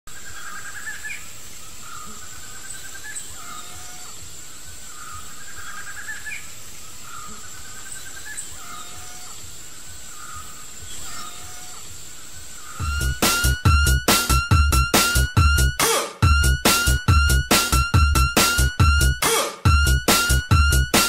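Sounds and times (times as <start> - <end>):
steady high-pitched whine: 0.1 - 21.0
bird calling in stepped phrases: 0.2 - 21.0.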